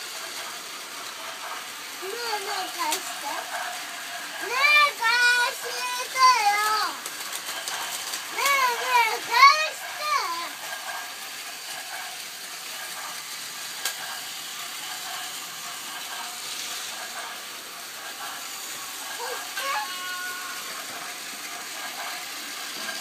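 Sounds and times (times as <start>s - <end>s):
toy train motors whirring: 0.0s - 23.0s.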